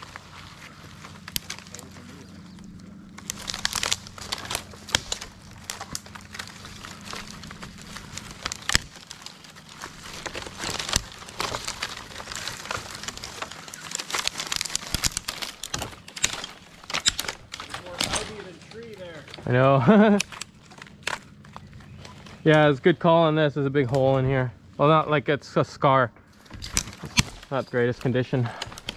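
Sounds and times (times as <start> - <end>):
twigs and branches snapping: 0.0 - 22.8, 26.3 - 28.9.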